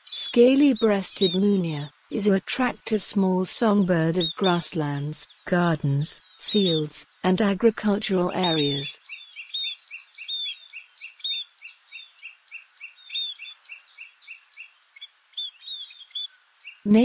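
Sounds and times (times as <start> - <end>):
birds chirping rapidly: 0.0 - 17.0.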